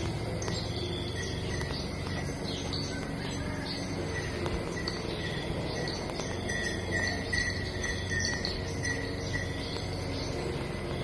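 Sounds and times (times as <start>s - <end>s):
insect chirping: 0.0s - 11.0s
low background noise: 0.0s - 11.0s.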